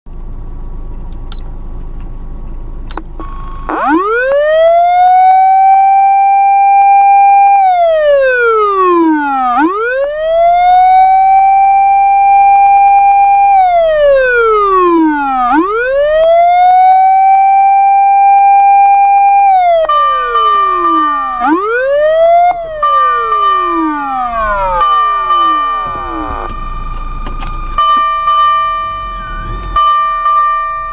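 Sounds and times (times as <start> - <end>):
electronic siren wail: 3.2 - 30.9
steady high siren tone: 3.2 - 30.9.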